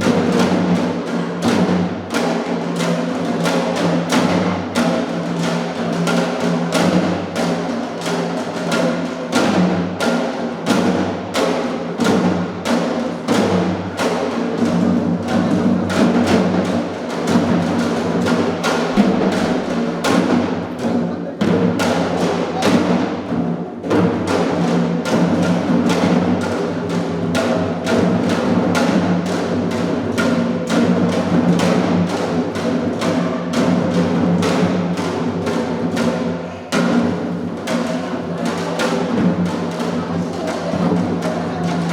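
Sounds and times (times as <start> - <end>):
steady drumbeat: 0.0 - 41.9.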